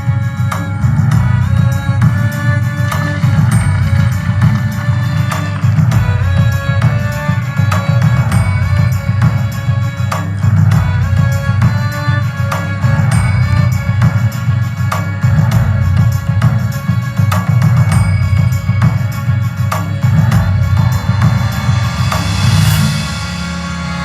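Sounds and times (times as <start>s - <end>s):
background music with percussion beat: 0.0s - 24.0s.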